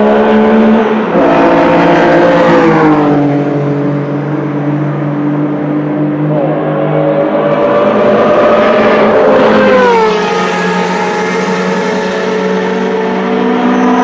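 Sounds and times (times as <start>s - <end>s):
other car engines: 0.0s - 14.0s
sports car racing past: 0.0s - 14.0s.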